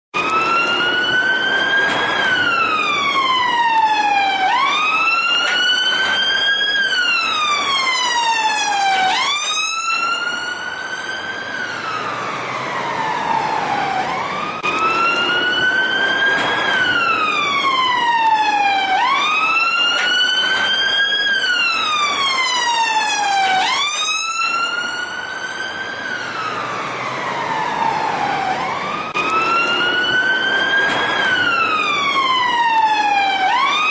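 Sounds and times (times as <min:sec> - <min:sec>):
police car siren wailing: 0:00.2 - 0:33.9.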